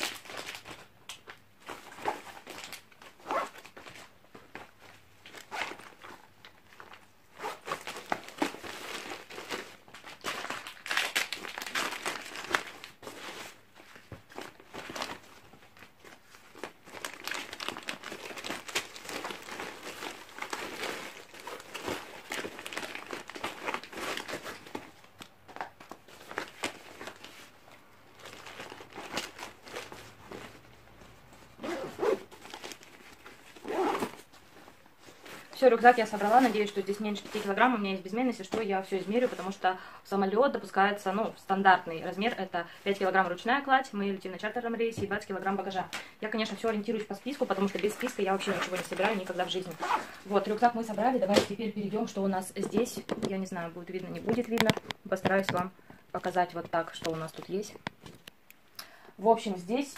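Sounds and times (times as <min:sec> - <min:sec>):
packets rustling and crinkling: 0:00.0 - 0:39.6, 0:44.9 - 0:58.3.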